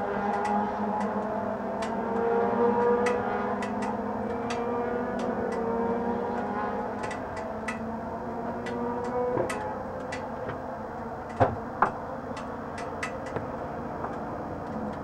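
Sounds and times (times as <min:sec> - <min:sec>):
light scattered clicks: 0:00.3 - 0:05.7, 0:06.4 - 0:07.9, 0:08.5 - 0:10.6, 0:11.2 - 0:15.0.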